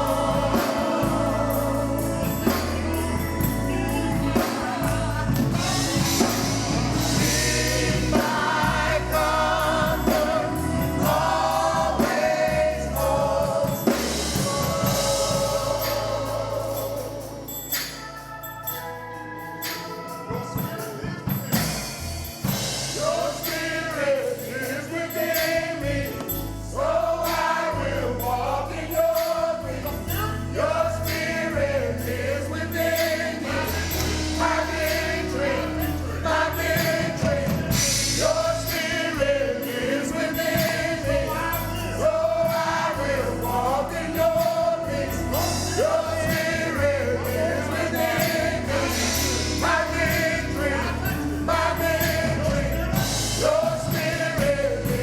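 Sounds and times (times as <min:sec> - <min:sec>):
band with bass and beat: 0:00.0 - 0:55.0
choir singing gospel music: 0:00.0 - 0:55.0.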